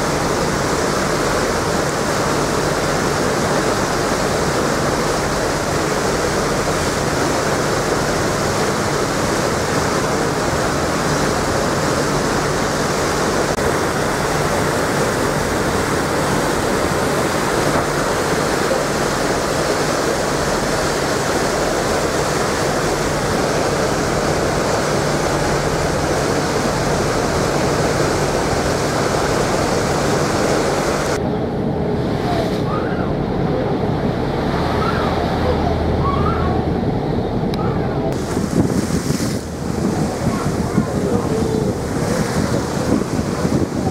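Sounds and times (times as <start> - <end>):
churning wake water: 0.0 - 43.9
low ship engine hum: 0.0 - 43.9
wind on microphone: 0.0 - 43.9.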